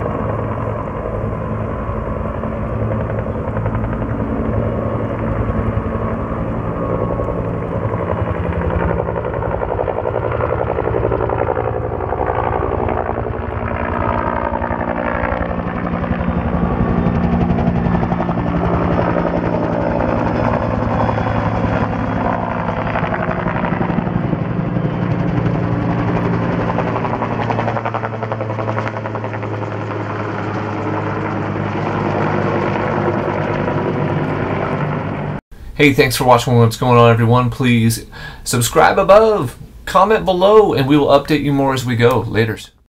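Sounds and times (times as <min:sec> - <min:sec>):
helicopter rotor beat: 0:00.0 - 0:35.4, 0:36.2 - 0:42.7.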